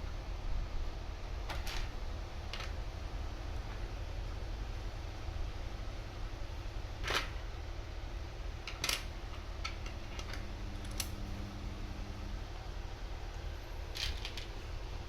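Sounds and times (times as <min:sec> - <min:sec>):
low hum: 0:02.1 - 0:15.0.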